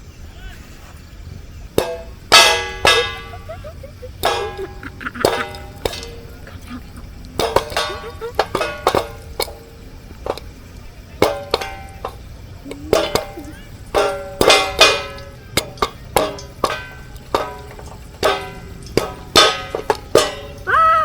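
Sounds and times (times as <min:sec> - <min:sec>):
plucked string instrument: 0:01.8 - 0:20.7.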